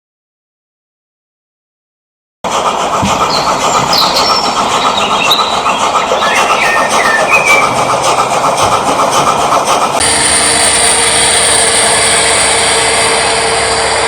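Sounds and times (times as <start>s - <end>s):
model locomotive drone and whine: 2.5s - 14.0s
model train wheel clatter: 2.5s - 14.0s.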